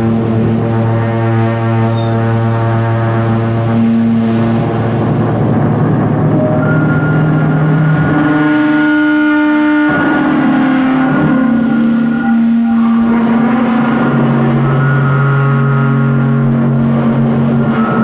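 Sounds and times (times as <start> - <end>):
drum feedback droning tones: 0.0 - 18.0.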